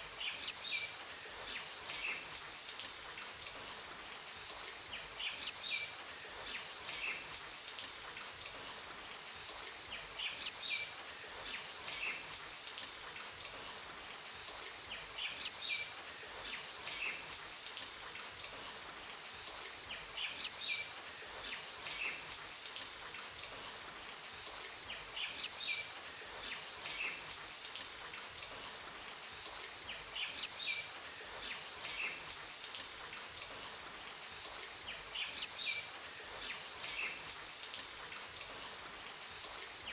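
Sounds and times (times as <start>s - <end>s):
small birds chirping: 0.0s - 39.9s
steady rain hiss: 0.0s - 39.9s.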